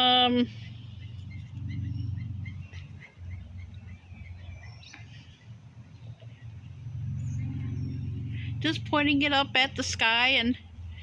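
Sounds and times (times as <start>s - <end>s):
low rumble: 0.0s - 11.0s
songbirds chirping: 0.0s - 11.0s.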